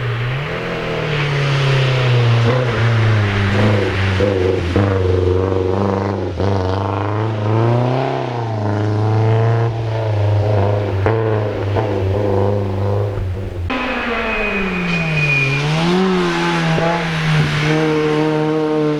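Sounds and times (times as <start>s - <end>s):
race car engine revving: 0.0s - 18.9s.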